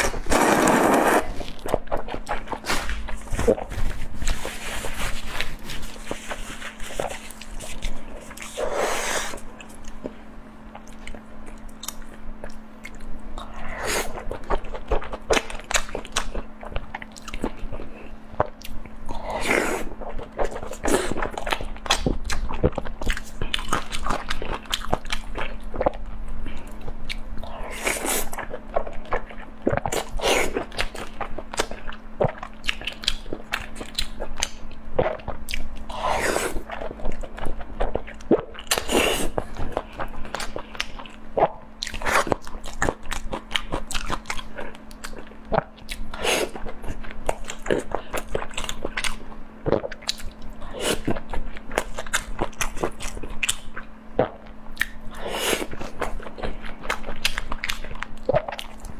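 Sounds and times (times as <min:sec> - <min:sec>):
faint steady hum: 0:00.0 - 0:58.9
person chewing food: 0:00.0 - 0:58.9.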